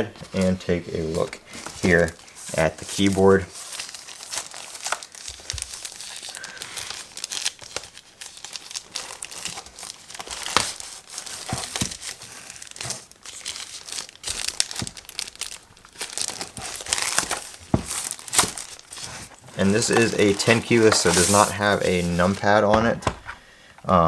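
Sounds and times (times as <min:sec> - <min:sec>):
packaging crinkling and rustling: 0:00.0 - 0:23.5.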